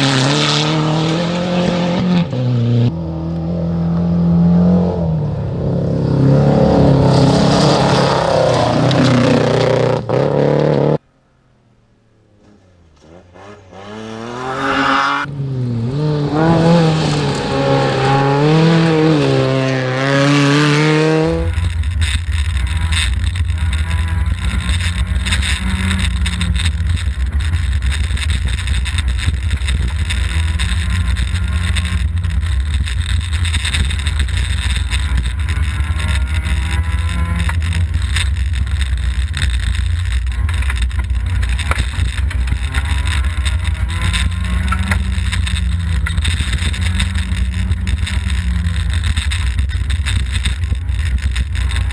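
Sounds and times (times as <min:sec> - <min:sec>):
gravel road noise: 0:00.0 - 0:51.9
rally car engine: 0:00.0 - 0:51.9.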